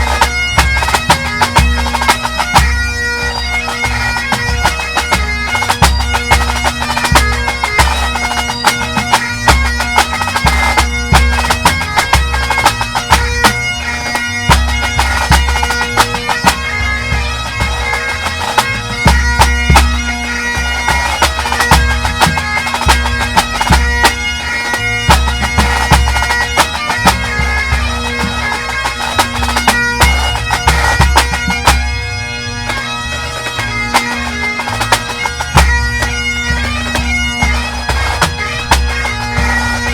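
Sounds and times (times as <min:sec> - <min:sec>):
bagpipes playing melody: 0:00.0 - 0:39.9.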